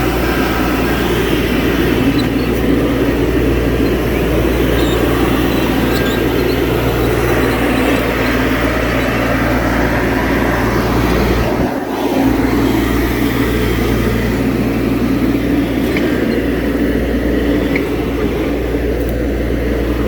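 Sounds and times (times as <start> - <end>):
skid steer engine running: 0.0 - 20.0.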